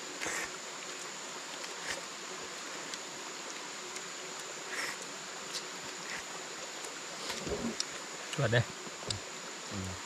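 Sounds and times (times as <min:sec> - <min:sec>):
even hiss: 0:00.0 - 0:10.0
insects droning: 0:00.0 - 0:10.0.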